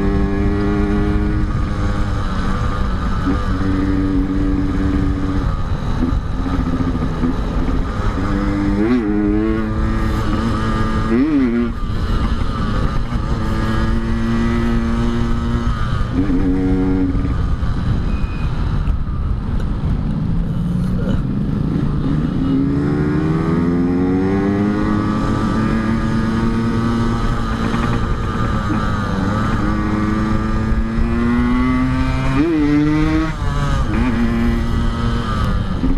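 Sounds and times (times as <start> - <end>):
two-stroke motorcycle engine: 0.0 - 35.9.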